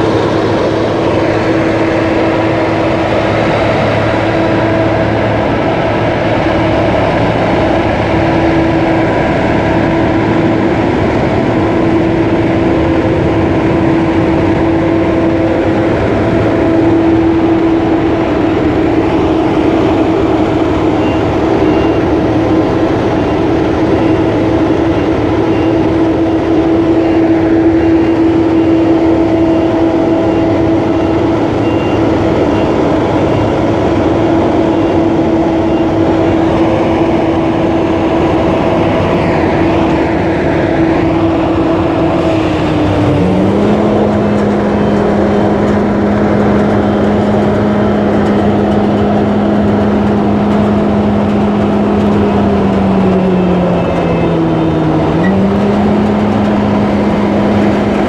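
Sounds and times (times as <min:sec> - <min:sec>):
combine harvester engine humming: 0:00.0 - 0:58.0.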